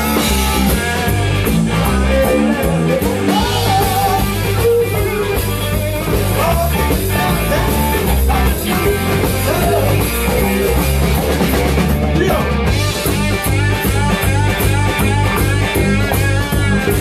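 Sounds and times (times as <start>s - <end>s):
drum kit: 0.0s - 17.0s
electric bass: 0.0s - 17.0s.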